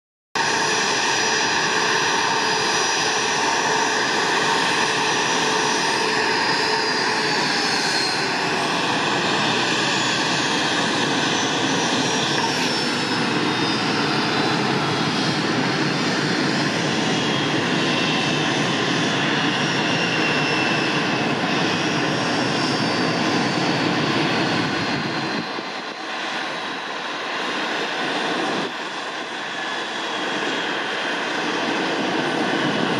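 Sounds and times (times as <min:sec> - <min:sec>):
jet engines spooling down: 0:00.4 - 0:32.9.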